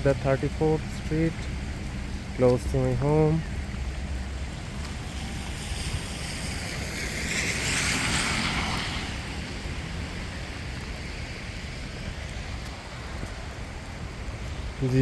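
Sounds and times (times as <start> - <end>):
low wind rumble on microphone: 0.0 - 15.0
steady rain: 0.0 - 15.0
tyres hissing on wet road: 0.0 - 15.0.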